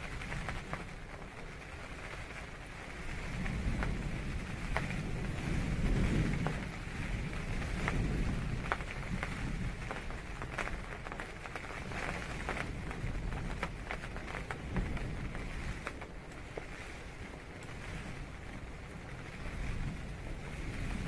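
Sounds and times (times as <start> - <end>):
rain pattering on a tent: 0.0 - 21.0.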